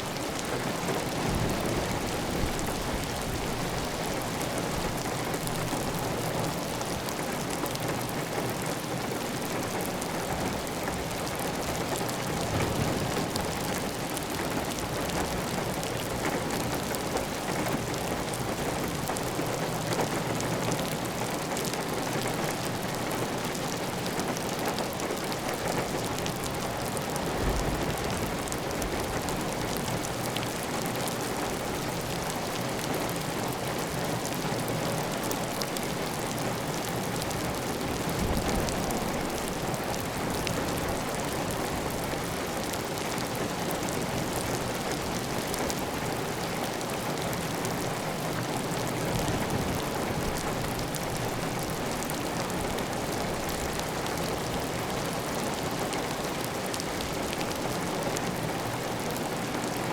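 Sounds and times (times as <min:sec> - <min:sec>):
rain pattering on tile roof: 0:00.0 - 0:59.9.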